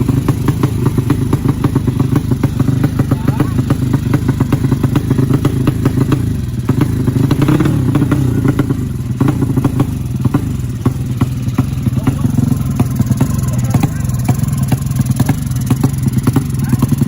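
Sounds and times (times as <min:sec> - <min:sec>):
engine idling: 0:00.0 - 0:17.0
rapid ticking clatter: 0:00.0 - 0:17.0.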